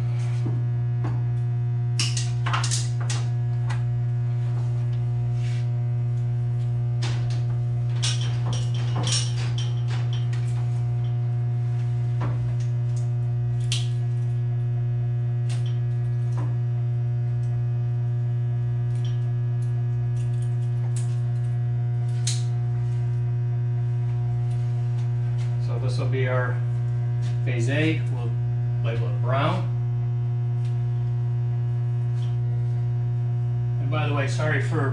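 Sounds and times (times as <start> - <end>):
transformers humming: 0.0 - 34.9.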